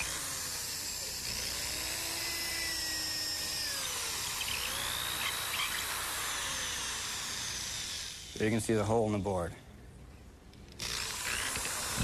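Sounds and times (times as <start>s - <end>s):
power drill boring wood: 0.0s - 8.9s, 10.7s - 12.0s.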